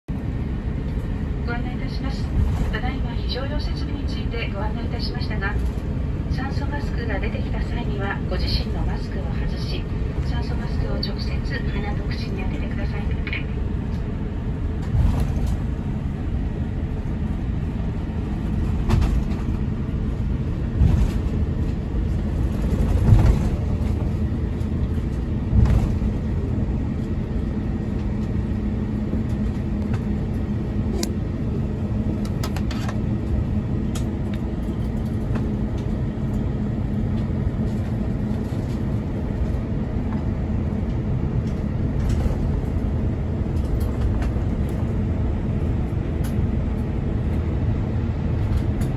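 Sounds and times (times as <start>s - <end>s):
aircraft engines low rumble: 0.0s - 48.9s.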